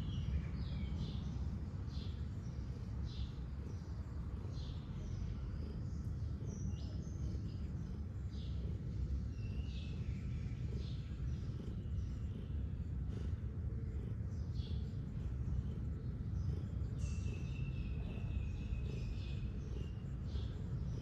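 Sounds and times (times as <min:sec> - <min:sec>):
bird chirps: 0:00.0 - 0:21.0
cat purring: 0:01.9 - 0:21.0.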